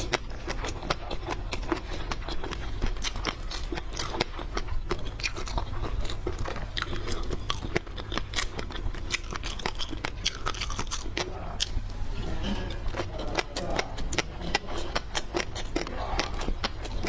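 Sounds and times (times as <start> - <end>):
close chewing and crunching: 0.0 - 17.0.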